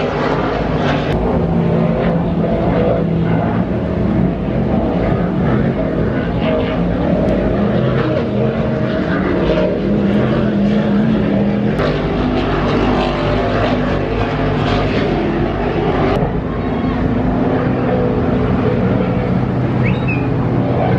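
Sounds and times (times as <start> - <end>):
powerboat engines running: 0.0 - 20.9.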